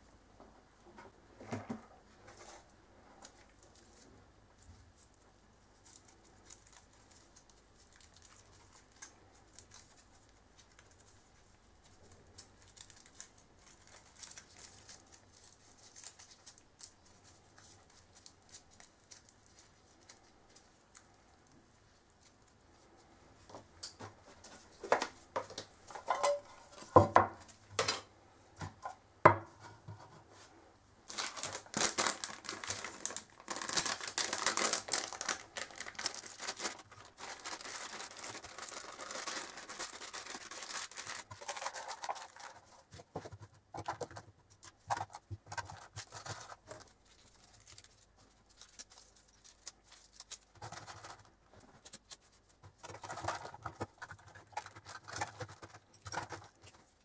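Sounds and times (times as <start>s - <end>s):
crinkling plastic and paper packets: 3.2s - 23.0s, 31.1s - 57.0s.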